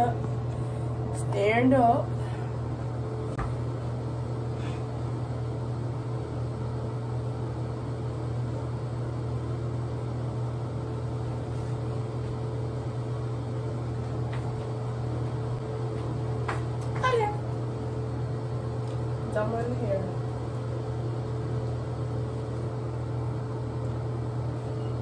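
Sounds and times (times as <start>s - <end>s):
ventilation fan humming: 0.0s - 25.0s.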